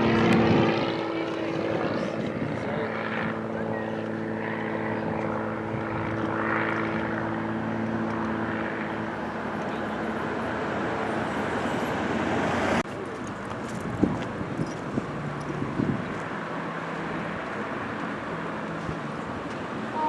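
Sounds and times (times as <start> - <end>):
noisy rush: 0.0 - 20.0
propeller airplane engine droning: 0.0 - 20.0.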